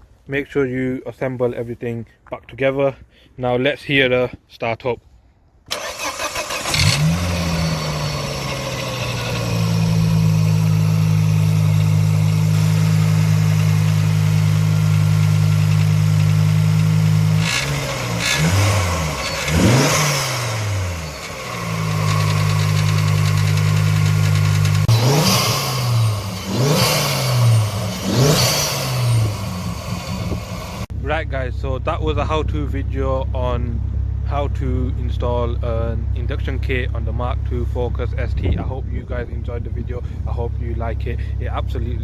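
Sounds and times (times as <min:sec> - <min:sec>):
car engine idling and revving: 0:05.7 - 0:42.0.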